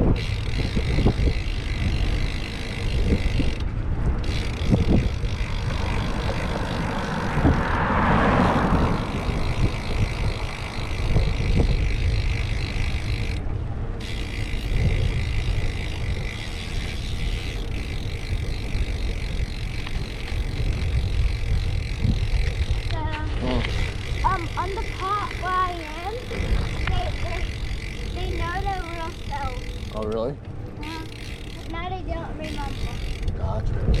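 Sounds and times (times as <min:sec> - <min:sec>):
rush of noise: 0:00.0 - 0:29.7
wind rumbling on microphone: 0:00.0 - 0:34.0.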